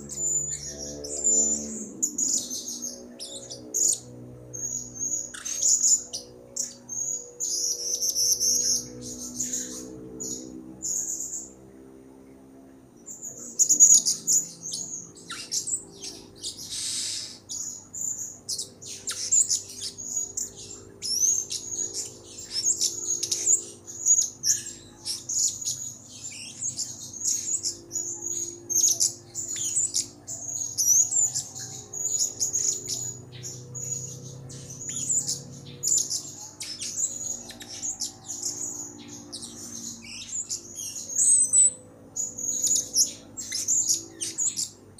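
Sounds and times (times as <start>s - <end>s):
parrot chirping and twittering: 0.0s - 11.5s, 13.1s - 44.9s.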